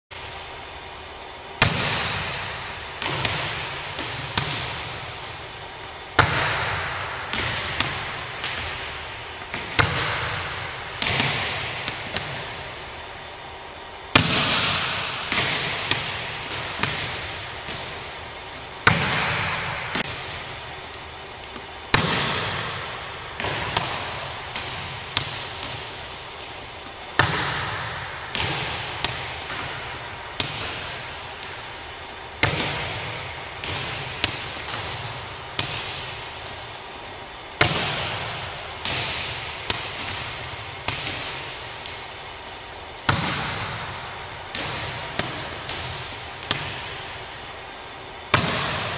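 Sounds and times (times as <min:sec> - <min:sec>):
ball bouncing on gym floor: 0:01.6 - 0:13.0, 0:14.1 - 0:47.4, 0:48.2 - 0:48.9.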